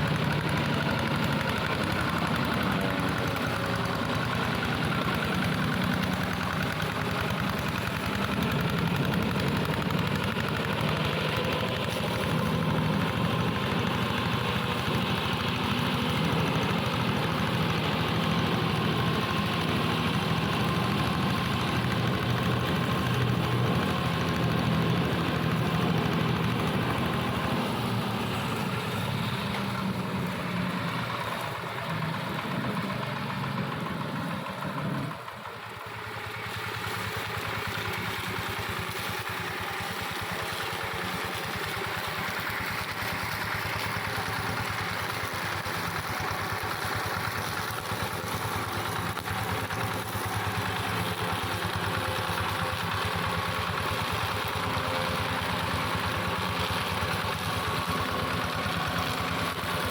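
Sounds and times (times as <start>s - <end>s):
mower engine cutting grass: 0.0s - 59.9s.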